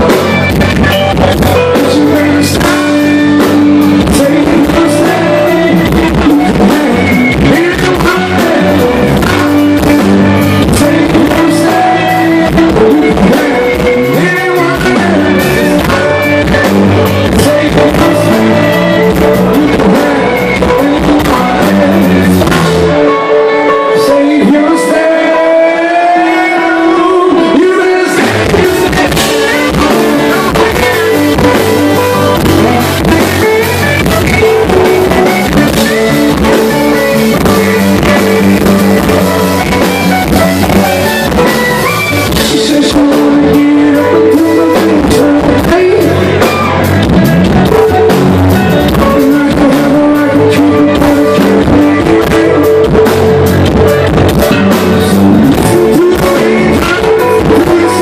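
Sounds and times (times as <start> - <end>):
lead singer singing: 0.0 - 58.0
live rock band playing: 0.0 - 58.0.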